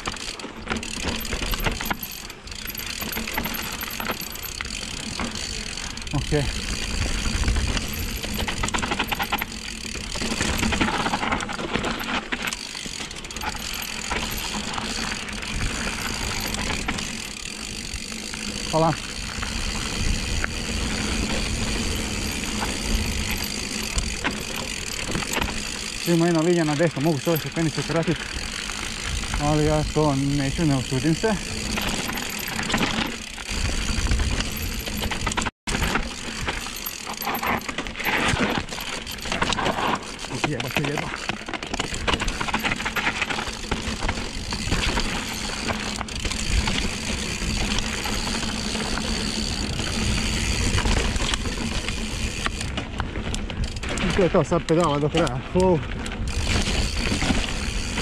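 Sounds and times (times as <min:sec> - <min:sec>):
bike frame rattling clicks: 0:00.0 - 0:58.0
bike tyres rumbling over dirt: 0:00.0 - 0:58.0
freehub ticking: 0:00.0 - 0:58.0.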